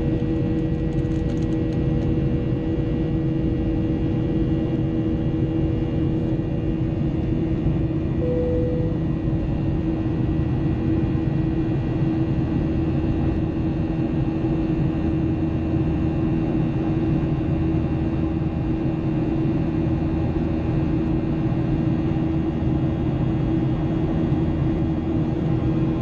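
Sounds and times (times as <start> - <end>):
jet engine drone in cabin: 0.0 - 26.0.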